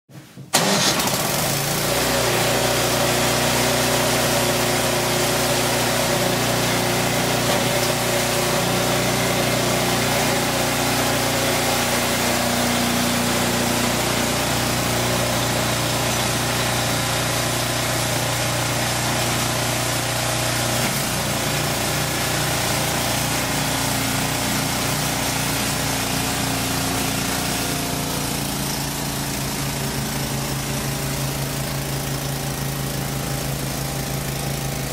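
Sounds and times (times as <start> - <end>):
snow blower engine running: 0.5 - 34.9.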